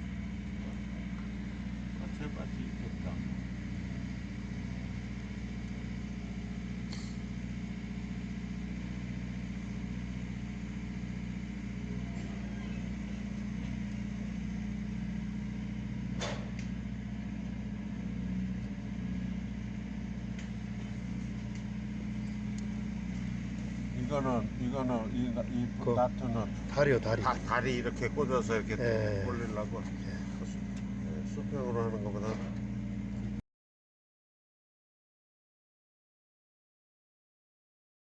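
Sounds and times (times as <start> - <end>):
low mechanical hum of machine: 0.0 - 33.4.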